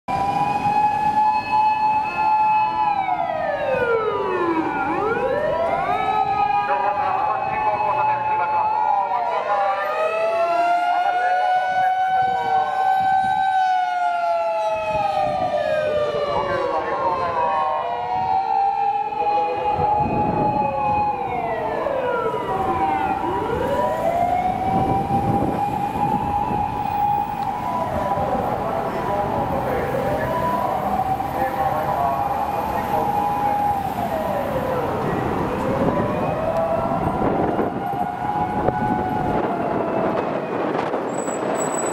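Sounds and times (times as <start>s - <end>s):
passing traffic: 0.1s - 41.9s
sliding high siren: 0.1s - 41.9s
steady siren note: 0.1s - 41.9s.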